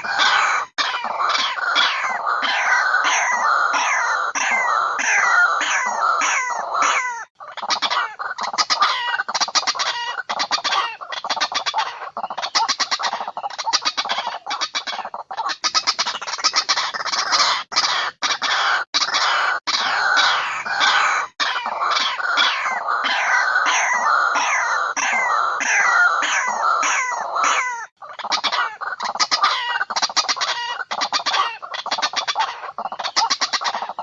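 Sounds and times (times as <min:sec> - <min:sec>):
bird harsh repeated calls: 0:00.0 - 0:34.0.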